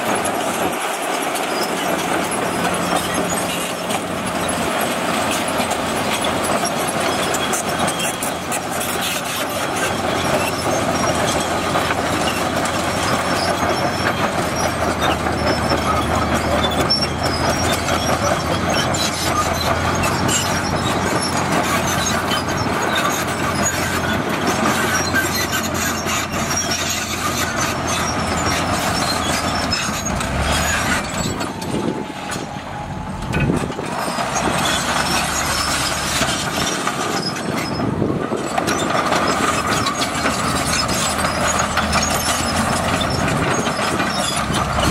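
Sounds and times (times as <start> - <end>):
bulldozer diesel engine under load: 0.0 - 44.9
steel tracks clanking: 0.0 - 44.9.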